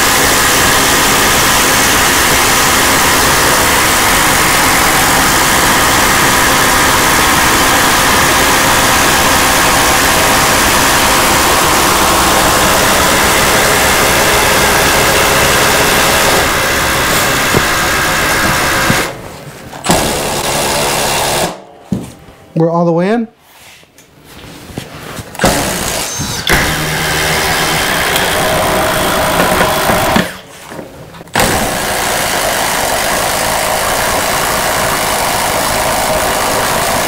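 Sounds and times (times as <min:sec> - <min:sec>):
drill motor whine: 0:00.0 - 0:19.2, 0:19.8 - 0:21.6, 0:25.4 - 0:30.4, 0:31.4 - 0:37.0
impact drivers hammering: 0:00.0 - 0:22.2, 0:25.4 - 0:30.5, 0:31.3 - 0:37.0.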